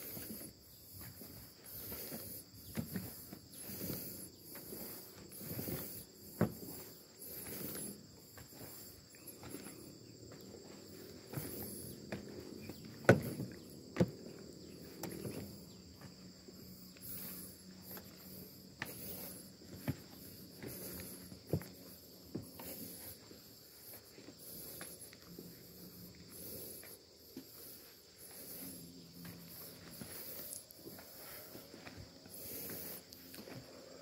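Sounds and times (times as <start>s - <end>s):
footsteps on wooden planks: 0.0s - 34.0s
insects buzzing: 0.0s - 34.0s.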